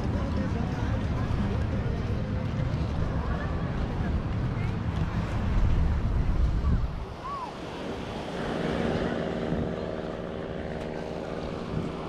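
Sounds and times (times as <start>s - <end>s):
engine hum: 0.0s - 12.0s
wind buffeting microphone: 0.8s - 12.0s.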